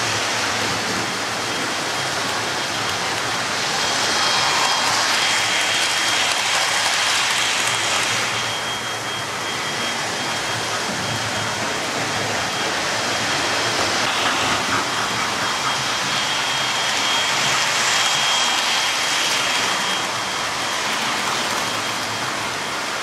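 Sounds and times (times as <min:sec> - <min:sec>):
model trains whirring on track: 0:00.0 - 0:23.0
thin high whine: 0:00.0 - 0:23.0.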